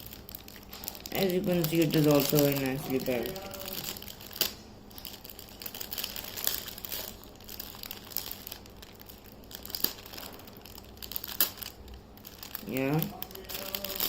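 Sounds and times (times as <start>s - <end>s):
packaging crinkling: 0.0s - 14.0s
sharp crackles and clicks: 0.0s - 14.0s.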